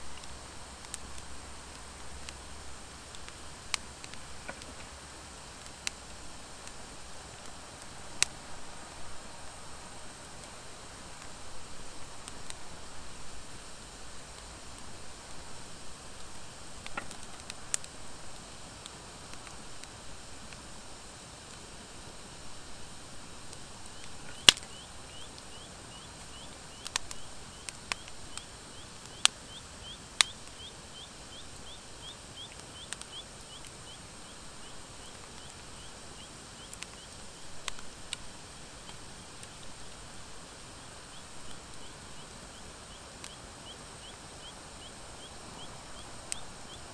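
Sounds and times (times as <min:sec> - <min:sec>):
wood fire hissing and crackling: 0:00.0 - 0:46.9.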